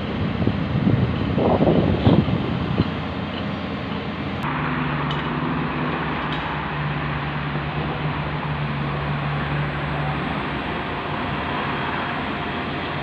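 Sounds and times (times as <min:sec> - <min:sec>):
broad rushing noise: 0:00.0 - 0:13.0
diesel engine running: 0:00.0 - 0:13.0.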